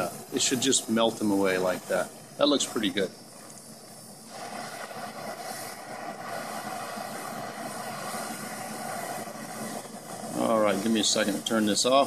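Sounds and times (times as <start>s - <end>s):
propane torch hissing: 0.0s - 12.0s.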